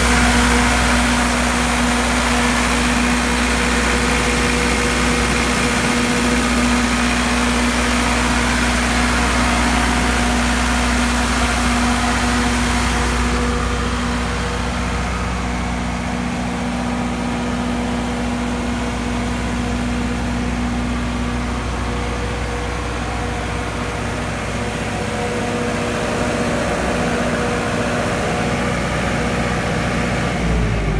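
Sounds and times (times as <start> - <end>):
generator diesel engine droning: 0.0 - 30.9.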